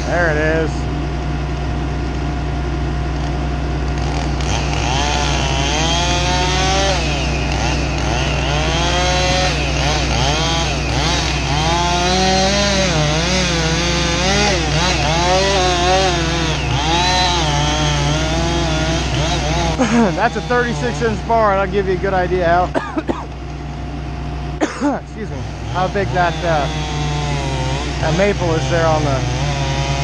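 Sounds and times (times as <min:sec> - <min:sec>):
chainsaw cutting wood: 0:03.2 - 0:23.2, 0:25.2 - 0:30.0.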